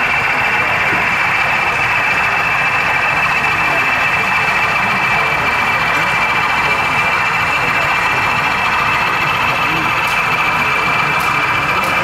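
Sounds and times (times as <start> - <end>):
crowd chattering: 0.0 - 12.0
engine-like hum: 0.0 - 12.0.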